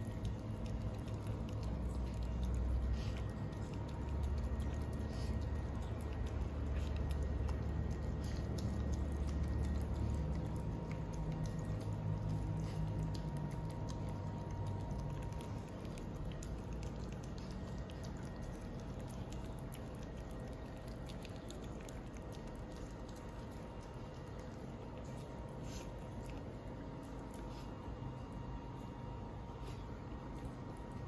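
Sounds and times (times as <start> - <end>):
dog chewing and licking: 0.0 - 31.0
low hum: 0.0 - 31.0.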